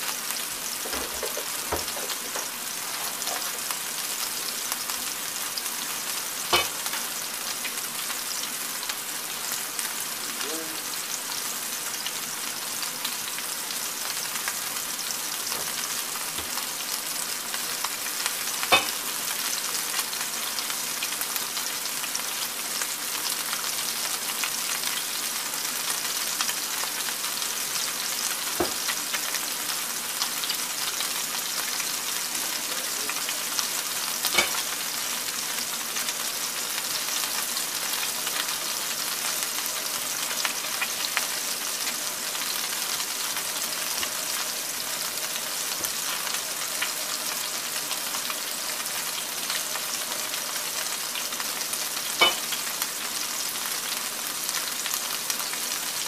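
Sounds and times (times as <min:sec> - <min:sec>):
meatballs sizzling in oil: 0:00.0 - 0:56.0.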